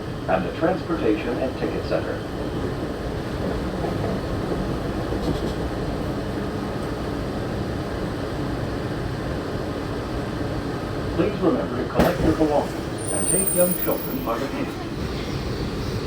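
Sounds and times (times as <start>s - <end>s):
monorail car rumble and hum: 0.0s - 16.0s.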